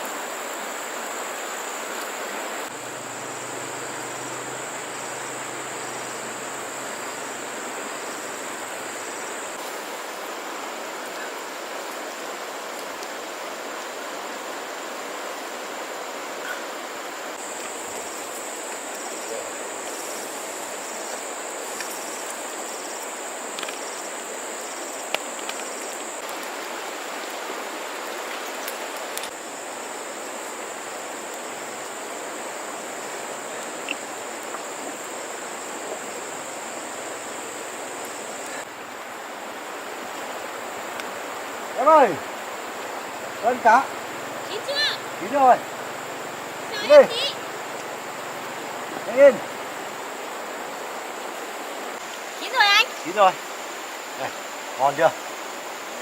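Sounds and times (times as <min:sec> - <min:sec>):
flowing water rushing: 0:00.0 - 0:56.0
high insect trill: 0:00.0 - 0:56.0.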